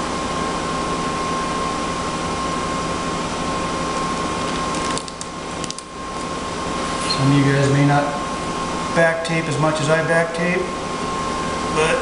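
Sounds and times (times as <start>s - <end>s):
machine whirring with whine: 0.0s - 12.0s.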